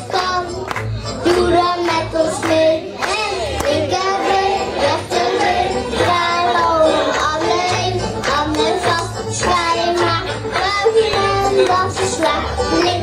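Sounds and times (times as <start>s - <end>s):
backing track with steady beat: 0.0s - 13.0s.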